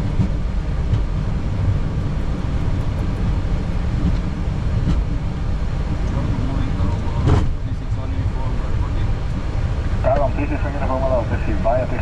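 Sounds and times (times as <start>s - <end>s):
airliner cockpit low rumble: 0.0s - 12.0s.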